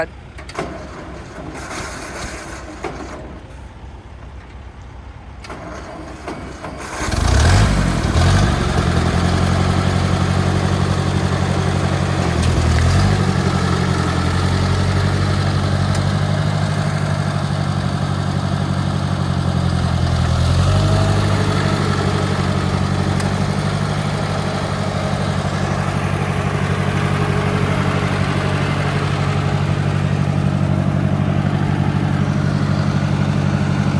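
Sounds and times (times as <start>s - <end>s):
tractor engine starting and running: 0.0s - 33.9s.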